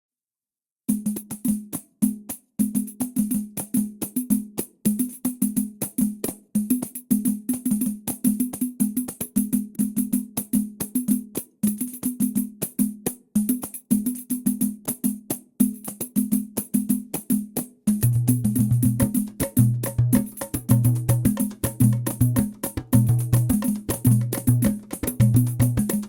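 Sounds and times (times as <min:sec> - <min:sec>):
samba percussion: 0:00.9 - 0:26.0.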